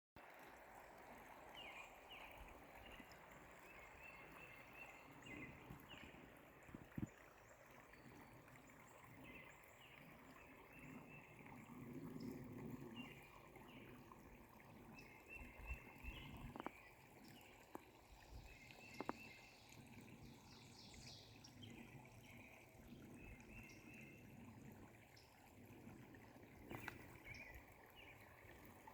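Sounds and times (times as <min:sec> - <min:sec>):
running water: 0:00.2 - 0:28.9.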